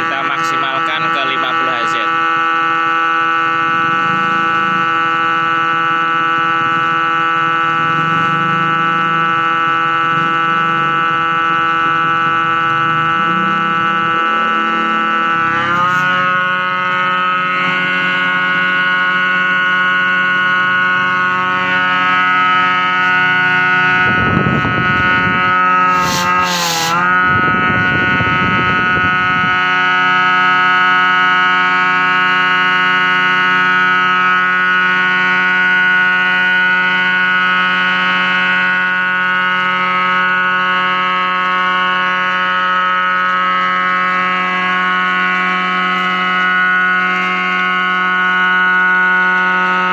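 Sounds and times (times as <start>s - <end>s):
rough mechanical noise: 0.0s - 49.9s
supercharger blower whining: 0.0s - 49.9s.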